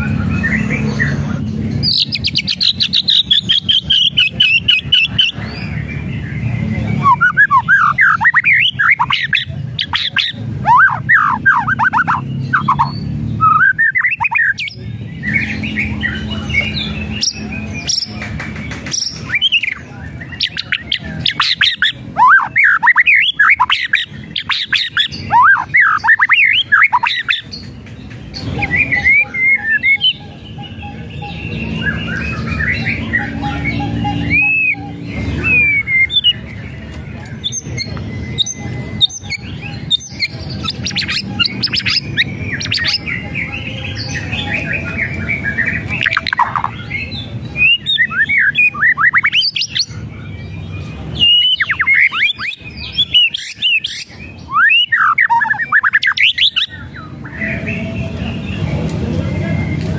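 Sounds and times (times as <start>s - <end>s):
bird squawking chatter: 0.0s - 59.9s
bird whistled song: 0.0s - 59.9s.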